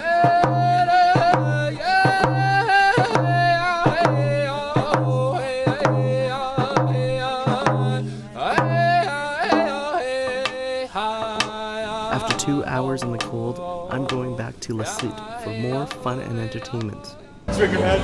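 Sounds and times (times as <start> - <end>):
hand drums booming beat: 0.0 - 10.6, 11.3 - 17.1
voices singing: 0.0 - 18.0.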